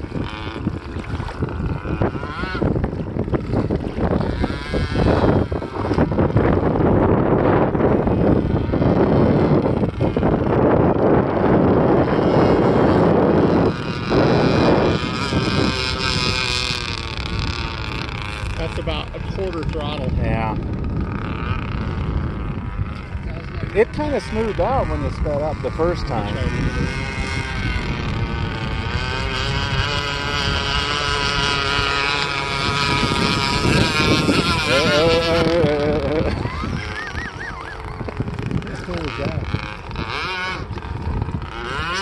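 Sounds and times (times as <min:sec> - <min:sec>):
two-stroke model boat engine whine: 0:00.0 - 0:42.0
wind buffeting microphone: 0:00.0 - 0:42.0.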